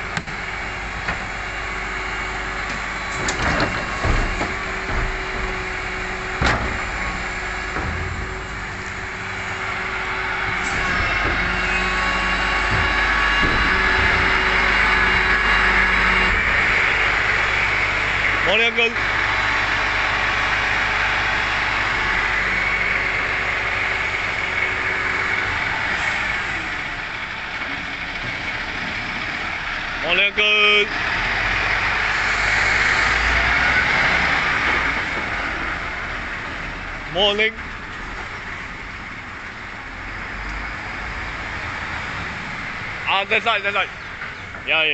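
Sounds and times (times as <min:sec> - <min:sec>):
garbage truck diesel engine running: 0:00.0 - 0:44.9.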